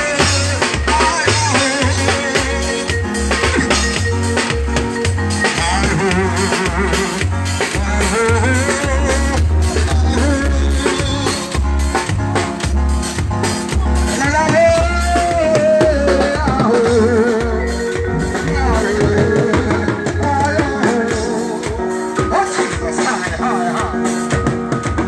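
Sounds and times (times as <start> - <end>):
person singing: 0.0 - 4.2, 4.8 - 11.9, 13.7 - 24.3
heavy bass beat: 0.0 - 24.7
live band music over speaker: 0.0 - 25.0.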